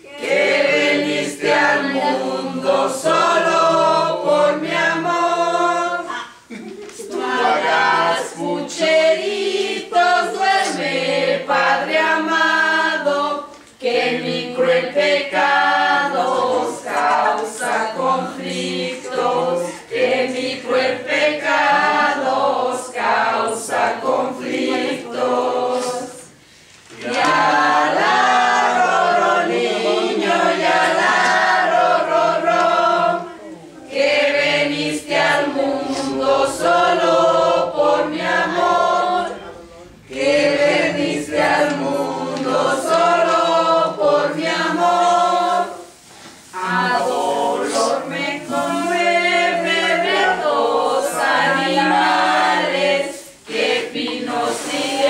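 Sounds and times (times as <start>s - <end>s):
men and women singing in chorus: 0.0s - 55.0s.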